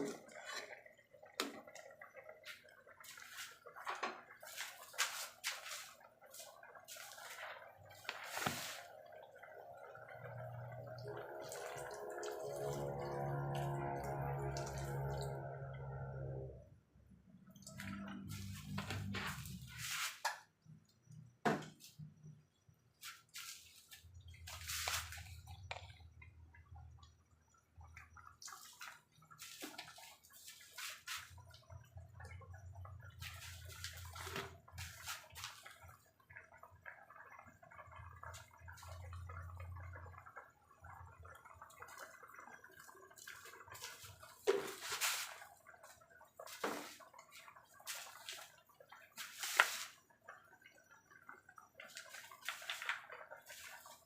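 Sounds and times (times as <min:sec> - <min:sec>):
water splashing and dripping: 0:00.0 - 0:16.6, 0:17.3 - 0:54.0.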